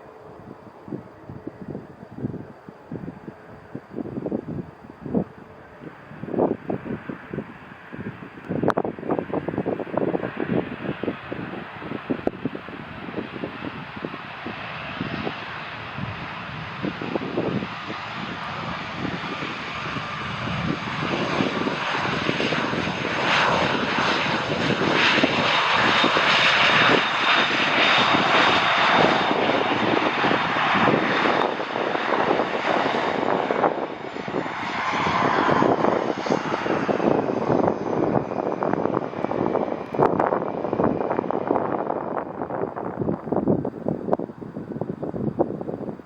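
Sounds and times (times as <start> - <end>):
airliner engines roaring: 0.0 - 46.0
thin engine whine: 0.0 - 46.0.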